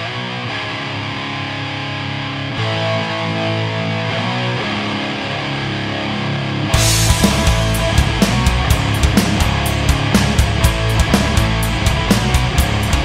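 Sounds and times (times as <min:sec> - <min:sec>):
distorted electric guitar rock music: 0:00.0 - 0:13.0.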